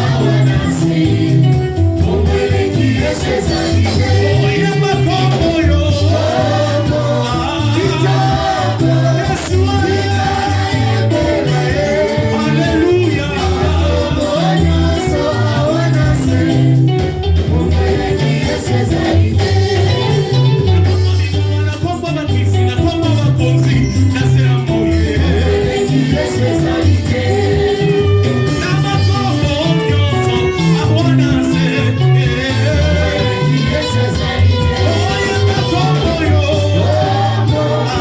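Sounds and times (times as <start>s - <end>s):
band with stepping bass line: 0.0s - 38.0s
voices singing gospel: 0.0s - 38.0s.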